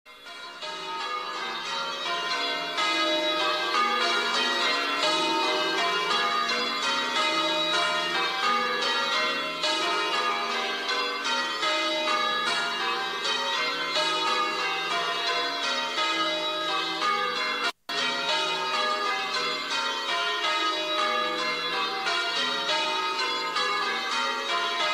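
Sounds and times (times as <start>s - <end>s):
church bells ringing: 0.1s - 24.9s.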